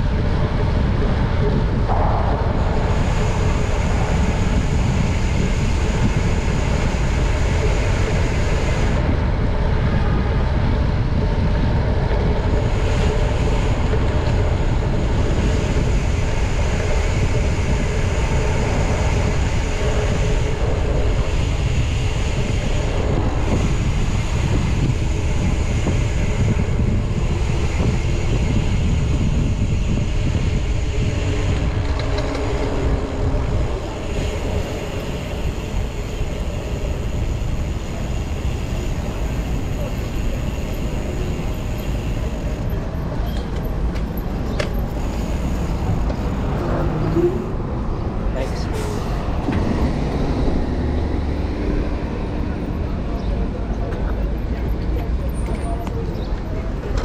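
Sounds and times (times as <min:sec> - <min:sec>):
road noise: 0:00.0 - 0:57.0
wind rush on microphone: 0:00.0 - 0:57.0.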